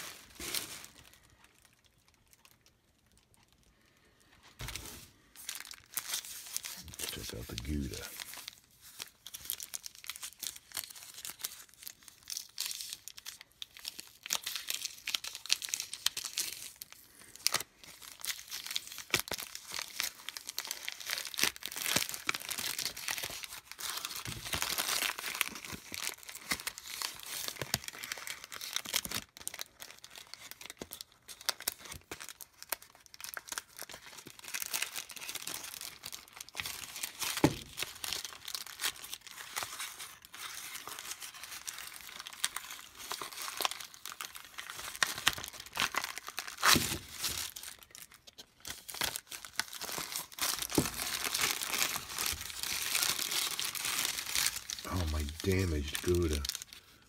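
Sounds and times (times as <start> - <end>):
paper wrapper crinkling and tearing: 0.0 - 57.0.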